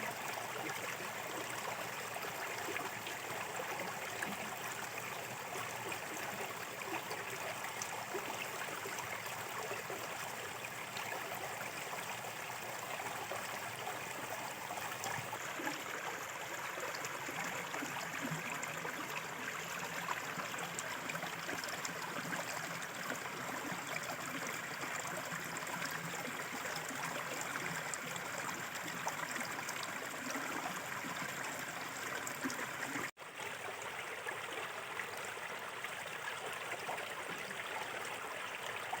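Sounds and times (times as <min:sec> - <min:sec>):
river babbling: 0:00.2 - 0:39.0.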